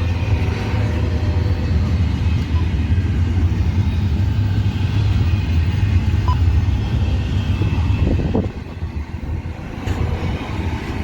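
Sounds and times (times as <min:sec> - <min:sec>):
freight train rumbling past: 0:00.0 - 0:11.0
wind buffeting microphone: 0:00.0 - 0:11.0.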